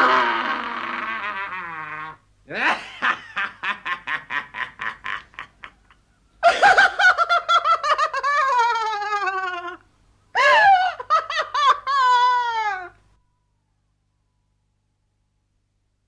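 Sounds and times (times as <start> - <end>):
high-pitched creepy laughter: 0.0 - 13.1.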